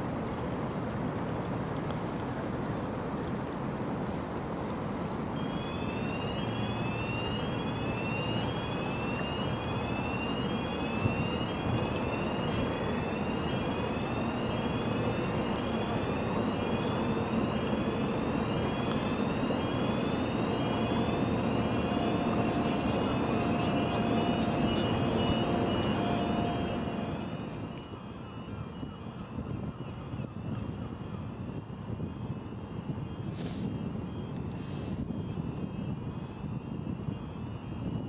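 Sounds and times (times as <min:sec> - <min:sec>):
ship engine: 0:00.0 - 0:30.0, 0:30.6 - 0:37.8
wind rumble: 0:00.0 - 0:38.0
electronic warning siren chirping: 0:05.4 - 0:38.0.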